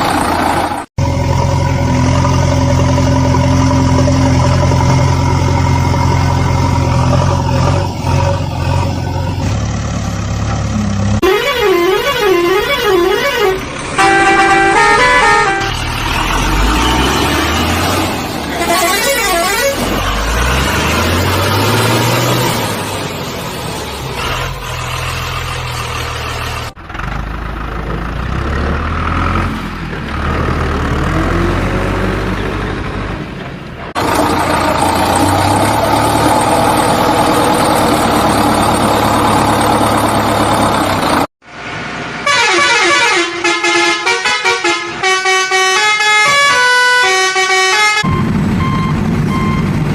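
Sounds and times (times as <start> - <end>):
tractor engine running: 0.0 - 41.3.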